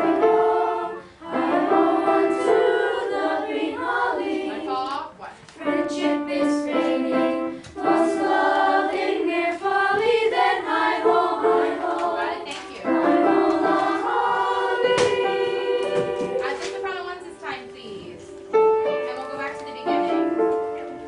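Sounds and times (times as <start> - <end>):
children's choir singing: 0.0 - 18.3.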